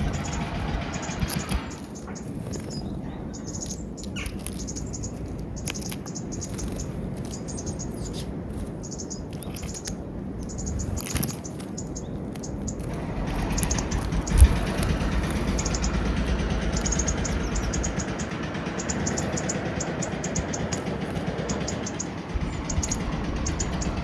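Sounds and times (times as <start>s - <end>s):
low background rumble: 0.0s - 24.0s
sharp clicks: 0.0s - 24.0s
small birds chirping: 0.0s - 24.0s.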